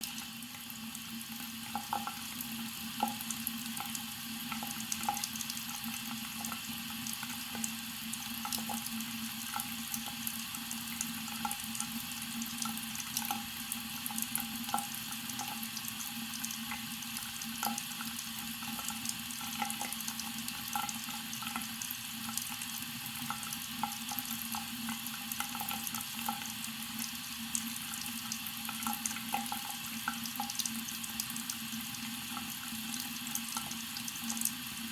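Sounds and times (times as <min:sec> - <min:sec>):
faucet running into sink: 0:00.0 - 0:34.9.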